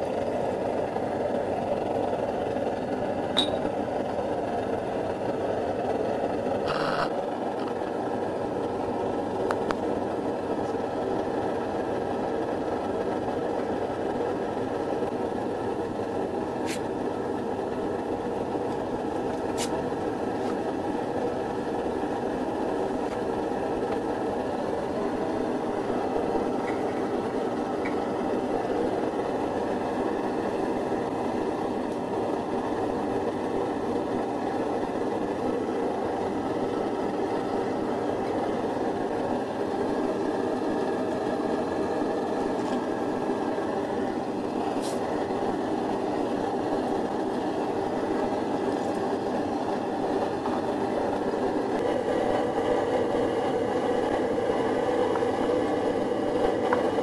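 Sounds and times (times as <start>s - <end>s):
stove burner rushing: 0.0s - 57.0s.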